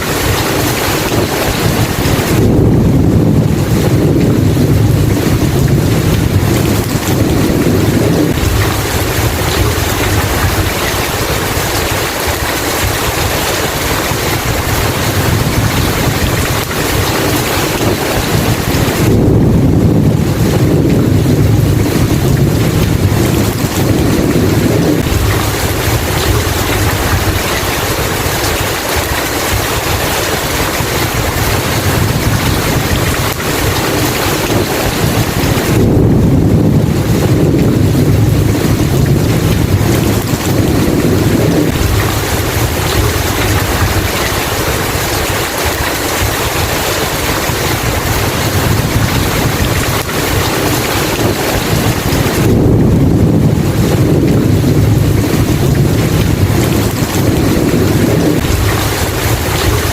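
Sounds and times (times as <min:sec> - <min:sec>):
heavy rain: 0:00.0 - 0:59.9
low thunder rumbles: 0:00.0 - 0:59.9.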